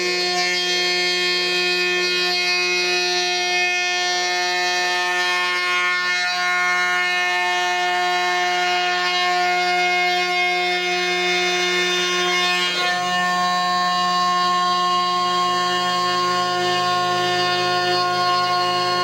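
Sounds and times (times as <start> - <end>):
cnc router whining: 0.0 - 19.0.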